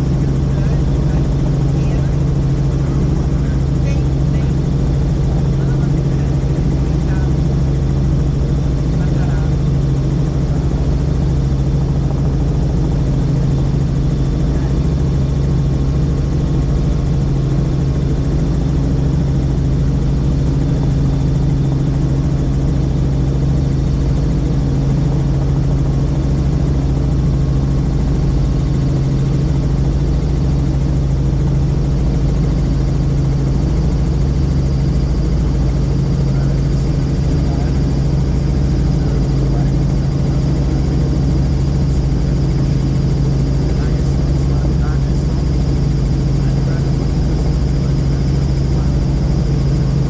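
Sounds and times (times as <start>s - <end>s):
helicopter engine and rotor drone: 0.0s - 50.0s.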